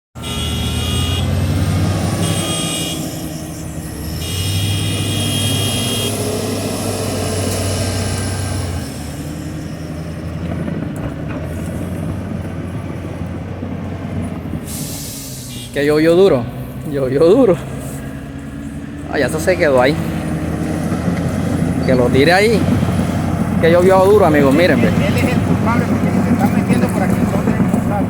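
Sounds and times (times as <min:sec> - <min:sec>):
heavy vehicle engine straining: 0:00.2 - 0:28.0.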